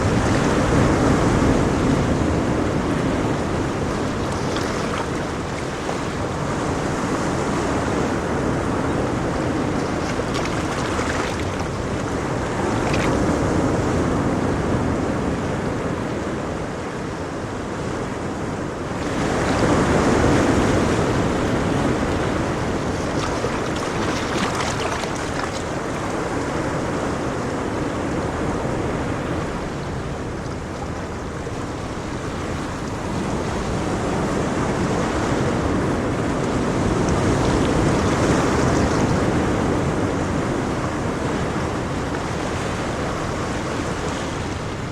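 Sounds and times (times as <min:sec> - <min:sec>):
ocean waves washing onto shore: 0:00.0 - 0:44.9.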